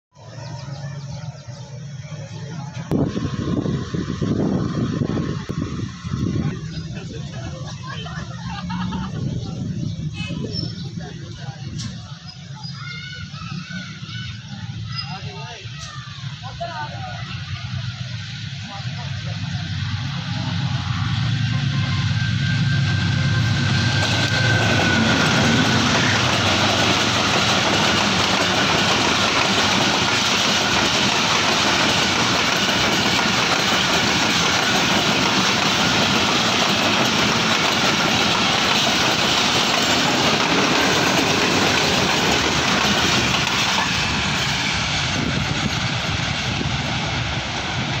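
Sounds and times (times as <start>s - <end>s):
locomotive engine: 0.2s - 12.6s, 13.3s - 48.0s
train wheels rumbling on rails: 0.2s - 48.0s.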